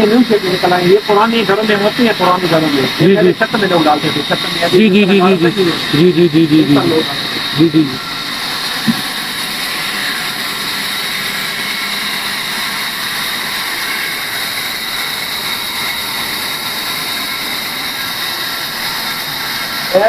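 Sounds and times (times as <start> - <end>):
band saw cutting timber: 0.0 - 20.0.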